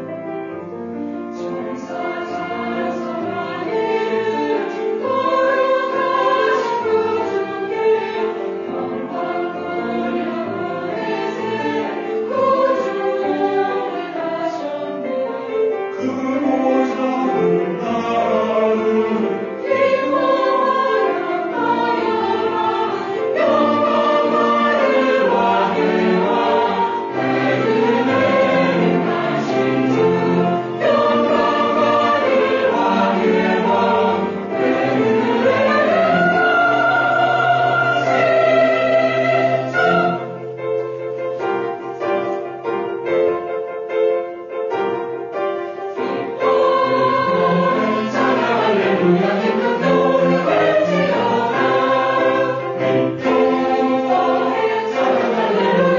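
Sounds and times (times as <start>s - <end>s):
choir singing a hymn: 0.0s - 43.1s, 44.9s - 55.9s.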